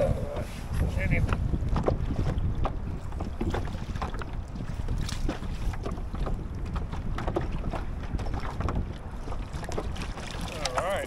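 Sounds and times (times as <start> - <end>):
waves slapping against hull: 0.0 - 11.0
wind rumbling on microphone: 0.0 - 11.0.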